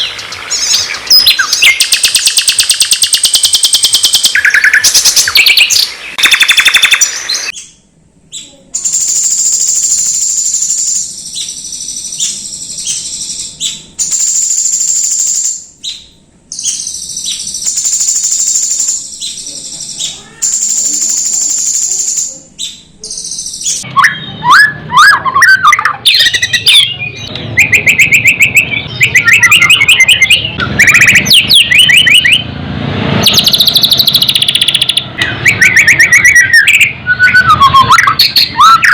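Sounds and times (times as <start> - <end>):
bird trilling and chirping: 0.0 - 32.5, 33.2 - 38.9.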